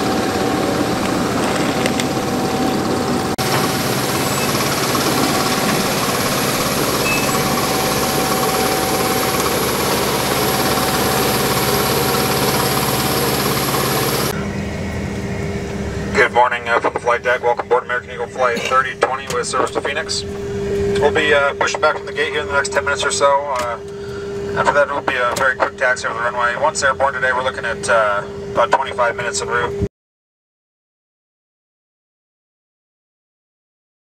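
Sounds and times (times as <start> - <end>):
jet turbine whine: 0.0 - 29.9.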